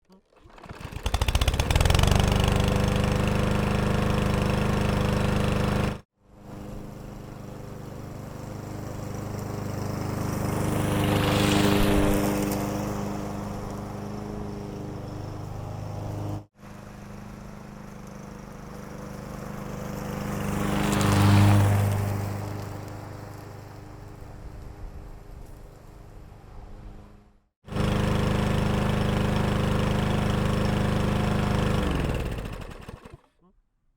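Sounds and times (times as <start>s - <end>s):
lawn mower engine running: 0.3s - 26.4s, 27.6s - 33.3s.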